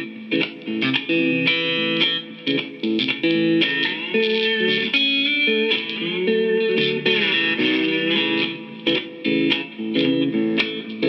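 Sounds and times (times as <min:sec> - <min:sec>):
electric cigar box guitar: 0:00.0 - 0:11.0
sliding guitar notes: 0:00.0 - 0:11.0.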